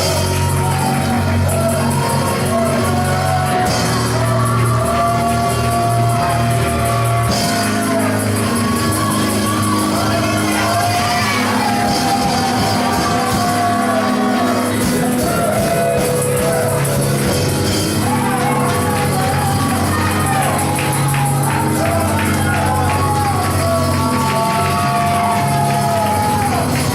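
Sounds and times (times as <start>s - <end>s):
congregation shouting: 0.0s - 26.9s
gospel singing: 0.0s - 26.9s
held instrumental chords: 0.0s - 26.9s.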